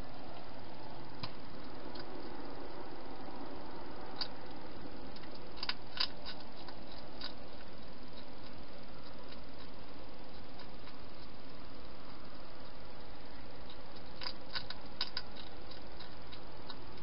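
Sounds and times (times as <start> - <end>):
steady hiss: 0.0 - 17.0
hedgehog eating clicks: 1.2 - 2.8, 3.5 - 17.0.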